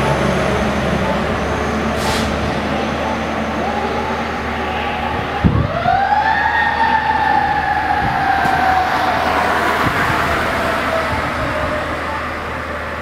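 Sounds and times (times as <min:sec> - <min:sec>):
engine and traffic rumble: 0:00.0 - 0:13.0
fire engine siren: 0:00.0 - 0:13.0.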